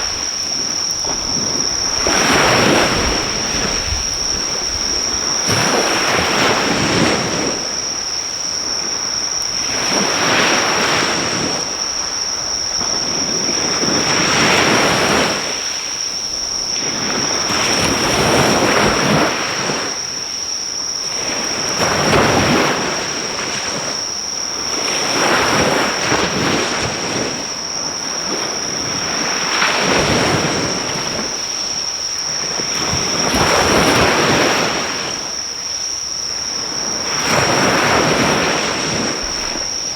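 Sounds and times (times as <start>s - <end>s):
sea waves washing onto shore: 0.0s - 20.5s, 21.1s - 39.9s
high insect trill: 0.0s - 39.9s.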